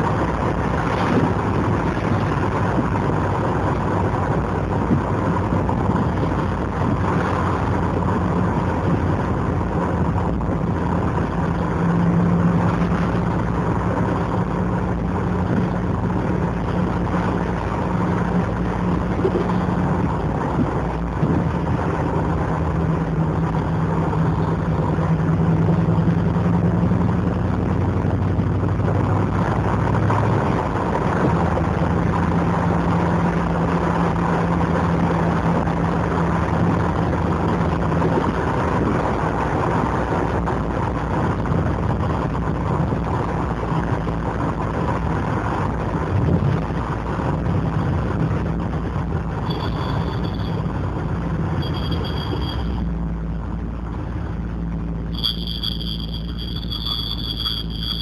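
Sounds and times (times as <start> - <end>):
car engine burbling: 0.0 - 58.0.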